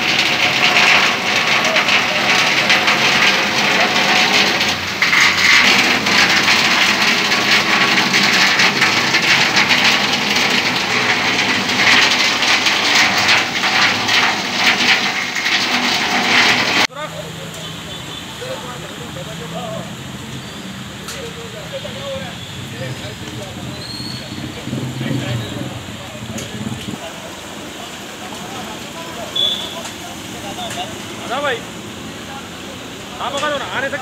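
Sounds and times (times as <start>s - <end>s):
floodwater rushing and splashing: 0.0s - 34.0s.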